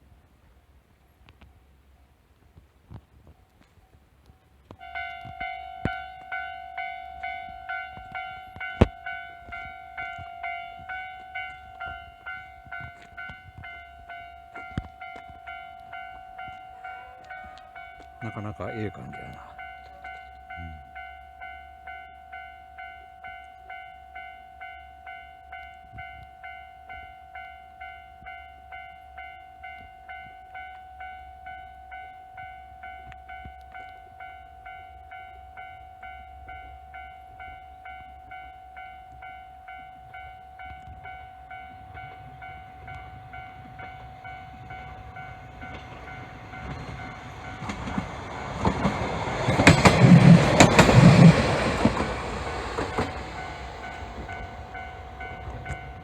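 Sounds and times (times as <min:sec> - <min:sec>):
diesel railcar rumble: 0:04.0 - 0:56.0
level crossing warning bell: 0:04.8 - 0:56.0.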